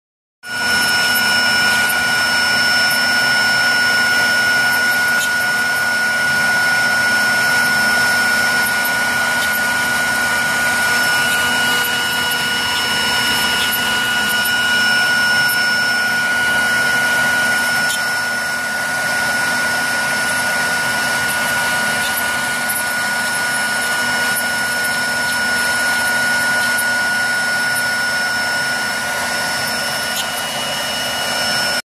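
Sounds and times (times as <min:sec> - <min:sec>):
cnc router spindle whine: 0:00.5 - 0:31.8.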